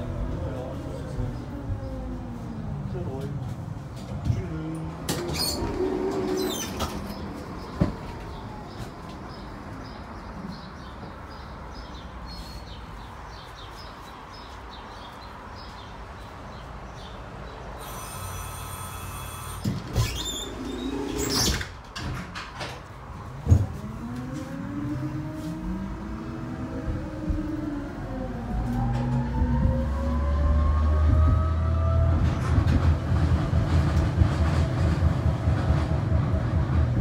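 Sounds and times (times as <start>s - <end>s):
tram rumbling: 0.0s - 37.0s.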